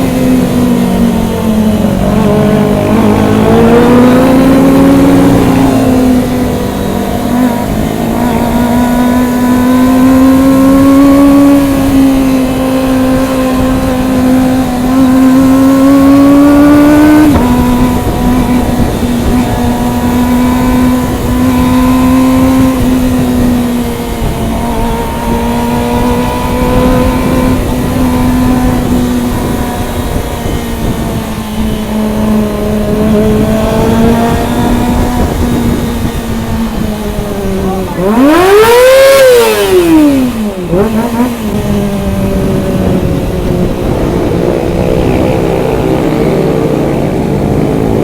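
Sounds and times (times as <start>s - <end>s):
motorcycle engine running: 0.0s - 48.0s
wind on microphone: 0.0s - 48.0s.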